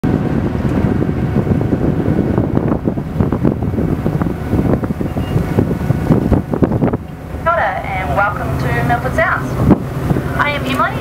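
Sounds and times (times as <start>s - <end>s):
boat running noise: 0.0s - 11.0s
wind buffeting microphone: 0.0s - 11.0s.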